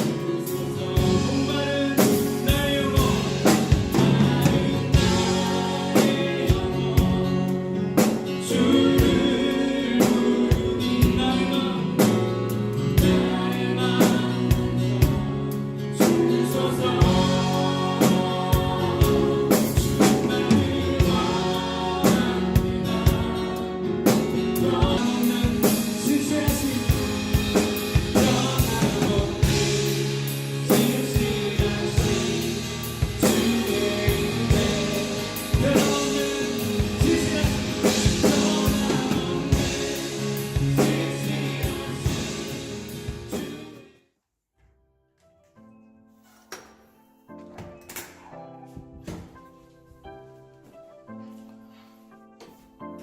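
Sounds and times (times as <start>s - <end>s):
group of voices singing: 0.0s - 12.3s, 13.0s - 44.0s
band with drum kit: 0.0s - 43.9s.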